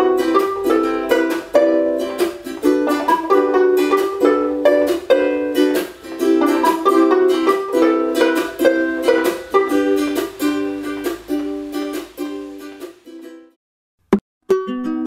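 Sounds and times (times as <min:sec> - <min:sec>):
ukulele duet: 0:00.0 - 0:13.6, 0:14.4 - 0:15.0.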